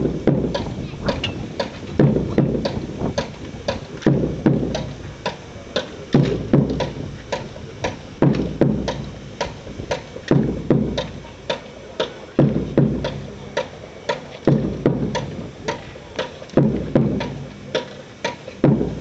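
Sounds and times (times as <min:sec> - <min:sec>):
heavy bass drum beats: 0:00.0 - 0:19.0.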